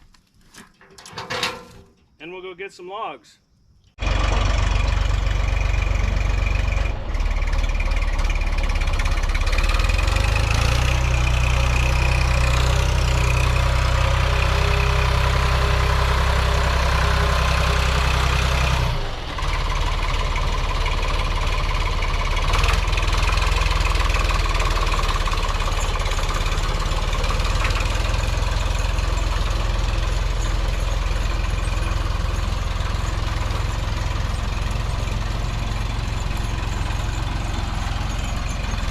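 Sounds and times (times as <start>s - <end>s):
tractor engine running: 4.0s - 38.9s.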